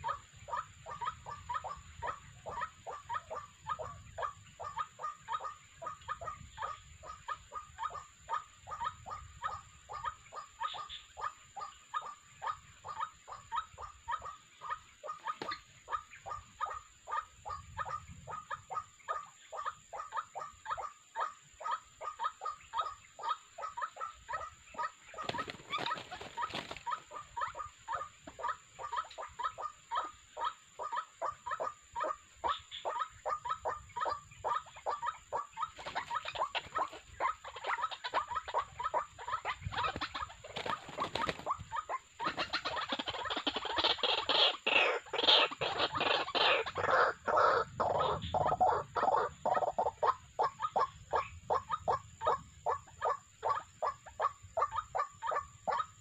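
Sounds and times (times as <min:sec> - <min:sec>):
birds croaking calls: 0:00.0 - 0:56.0.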